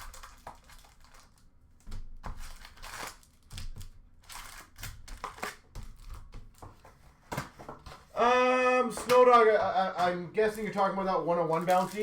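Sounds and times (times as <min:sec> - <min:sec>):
wrapper crinkling: 0:00.0 - 0:06.6, 0:09.0 - 0:12.0
cards rustling: 0:00.0 - 0:12.0.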